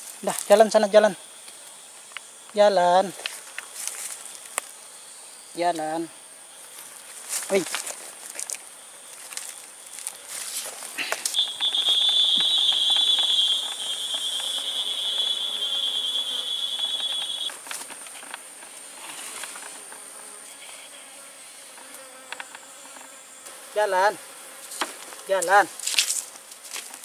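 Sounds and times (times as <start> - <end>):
insect buzzing call: 0.0 - 26.9
faint high insect hum: 0.0 - 27.0.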